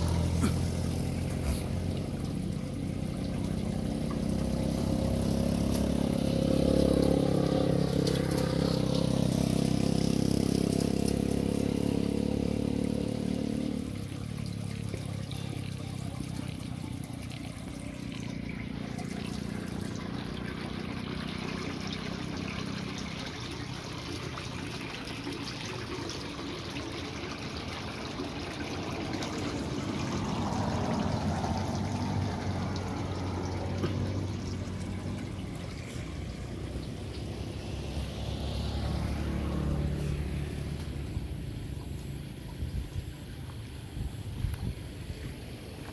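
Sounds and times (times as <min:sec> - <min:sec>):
rainwater pouring through culvert: 0:00.0 - 0:45.9.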